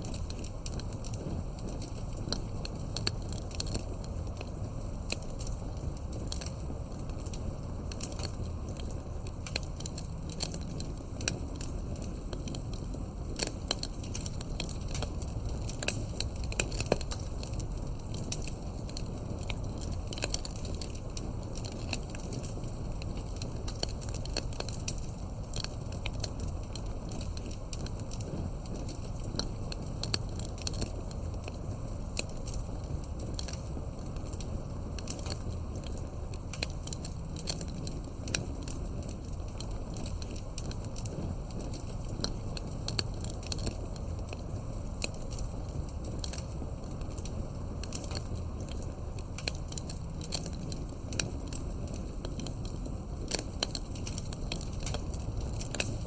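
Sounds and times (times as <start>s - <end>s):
campfire crackling: 0.0s - 56.0s
low rumble of burning fire: 0.0s - 56.0s.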